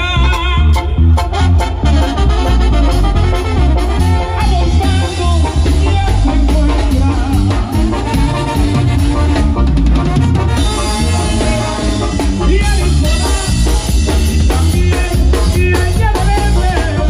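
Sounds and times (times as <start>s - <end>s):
song with drums and singing: 0.0s - 17.0s.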